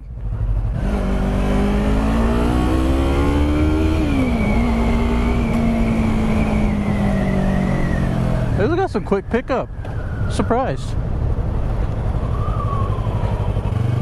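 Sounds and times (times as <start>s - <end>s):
motorcycle engine accelerating: 0.0s - 9.0s, 11.0s - 14.0s.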